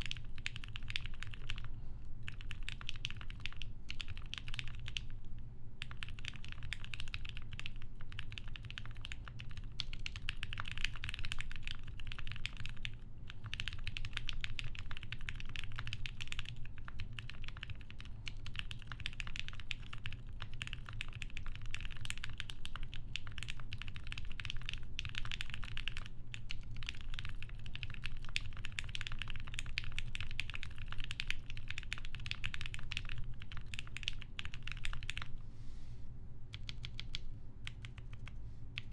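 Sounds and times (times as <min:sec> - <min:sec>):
fast typing on mechanical keyboard: 0:00.0 - 0:05.2, 0:05.8 - 0:35.3, 0:36.5 - 0:38.9.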